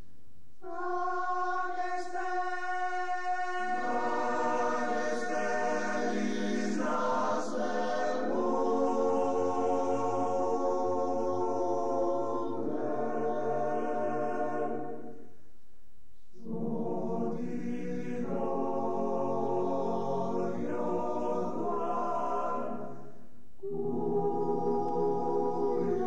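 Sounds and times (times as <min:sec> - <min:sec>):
men's choir singing: 0:00.6 - 0:15.2, 0:16.4 - 0:26.0.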